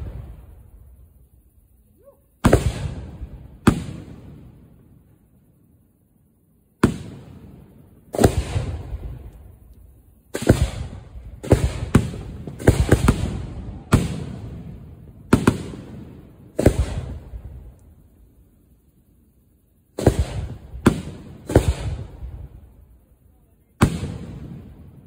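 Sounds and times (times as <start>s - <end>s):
firework booms with rolling echo: 0.0s - 1.1s, 2.4s - 5.3s, 6.8s - 18.5s, 19.9s - 23.1s, 23.8s - 25.0s.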